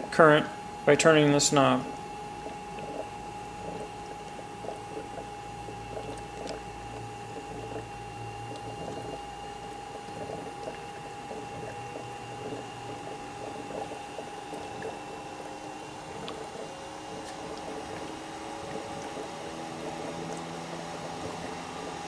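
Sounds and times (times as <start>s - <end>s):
gas bubbling through water: 1.5s - 22.0s.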